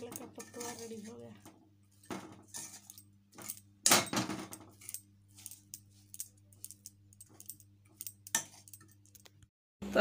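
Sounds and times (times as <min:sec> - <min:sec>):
metal spatula scraping a pan: 0:00.0 - 0:03.5, 0:04.5 - 0:09.1.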